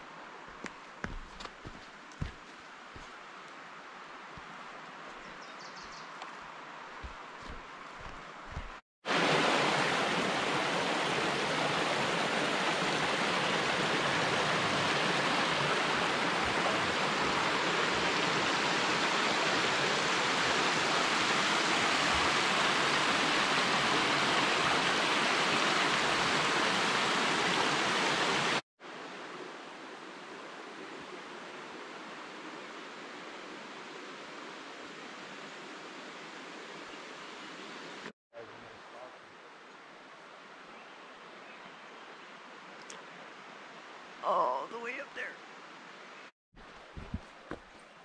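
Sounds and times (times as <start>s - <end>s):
creek water rushing: 0.0s - 5.2s, 6.3s - 48.0s.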